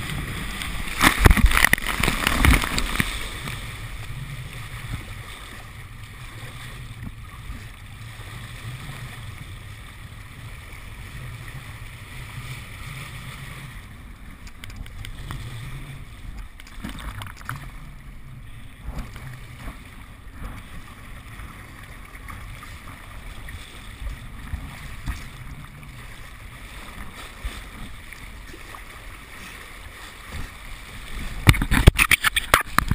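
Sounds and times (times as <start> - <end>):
water rushing and splashing: 0.0 - 32.9
wind rumbling on camera: 0.0 - 32.9.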